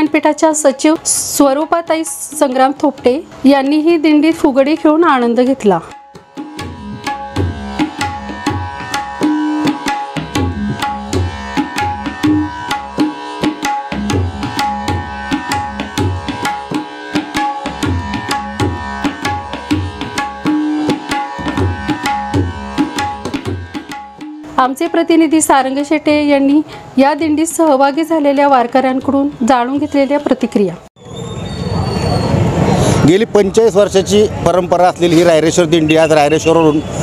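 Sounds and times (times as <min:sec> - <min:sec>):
tabla playing: 0:00.0 - 0:30.9, 0:33.8 - 0:37.0.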